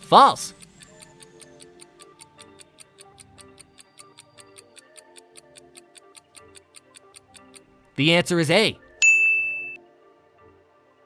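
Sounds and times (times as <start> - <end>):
timer clock ticking: 0.0 - 8.9
soft background music: 0.0 - 11.0.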